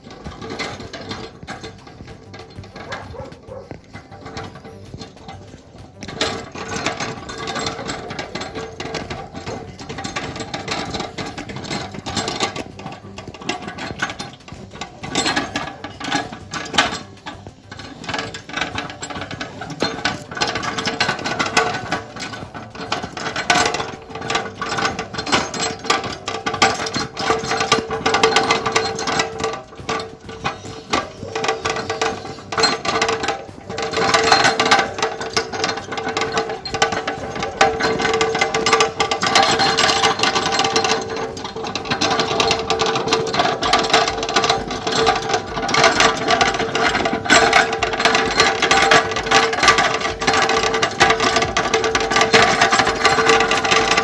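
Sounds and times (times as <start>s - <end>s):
hand cart rattling and clattering: 0.0s - 54.0s.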